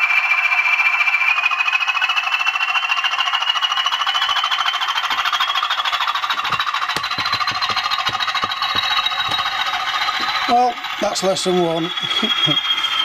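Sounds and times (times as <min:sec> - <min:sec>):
diesel engine drone with whine: 0:00.0 - 0:13.0.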